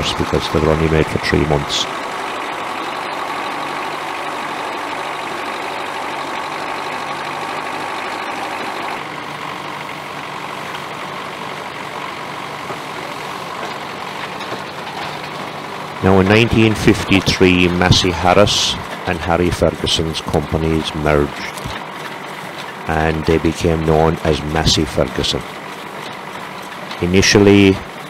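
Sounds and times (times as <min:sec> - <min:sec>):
tractor engine idling: 0:00.0 - 0:28.0.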